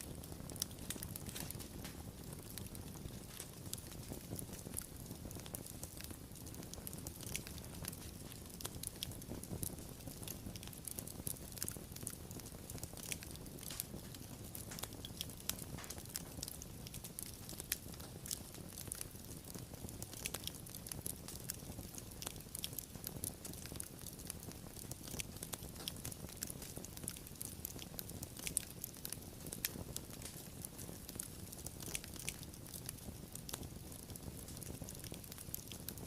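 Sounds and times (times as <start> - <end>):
fire snapping and popping: 0.0 - 36.0
low rumble of flames: 0.0 - 36.0.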